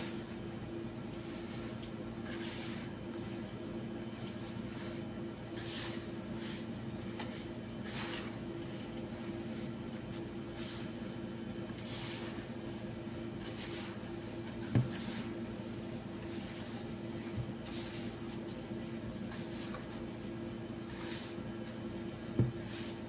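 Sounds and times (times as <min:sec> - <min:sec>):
hand mixing sugar filling: 0:00.0 - 0:23.0
steady low hum: 0:00.0 - 0:23.0.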